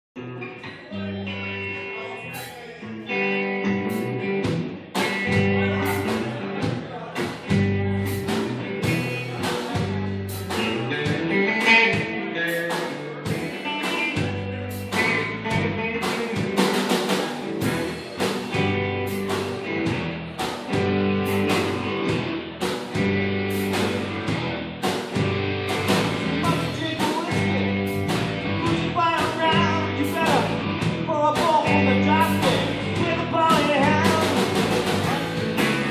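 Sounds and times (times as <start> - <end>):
live blues band playing: 0.2 - 35.9
steady drum beat: 3.8 - 35.9.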